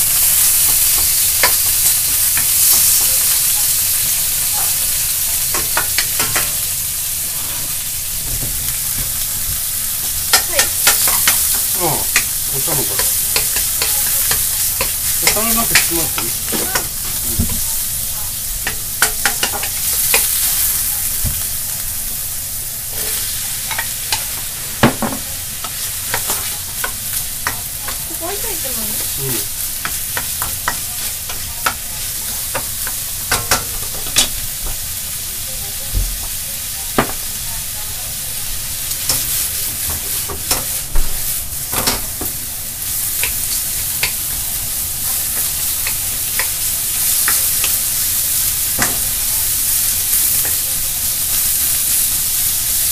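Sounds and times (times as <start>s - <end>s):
food sizzling in a wok: 0.0s - 52.9s.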